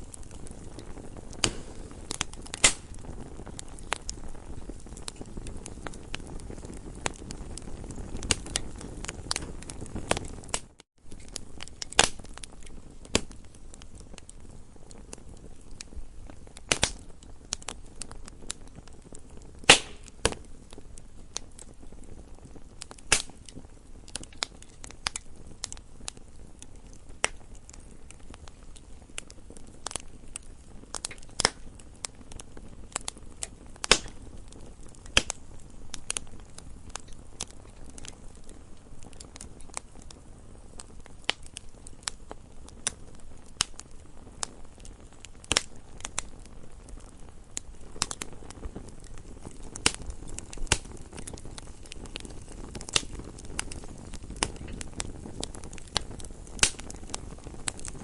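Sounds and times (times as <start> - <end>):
soft low hiss: 0.0 - 58.0
wood fire crackling: 0.0 - 58.0.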